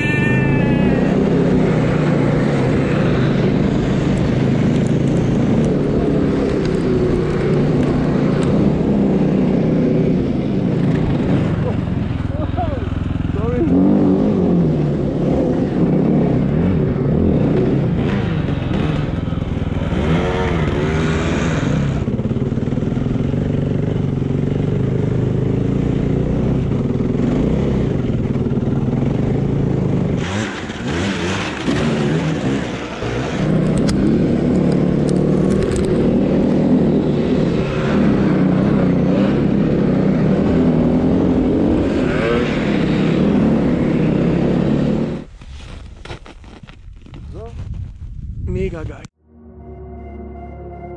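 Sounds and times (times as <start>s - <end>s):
motorcycle engine revving: 0.0s - 45.4s.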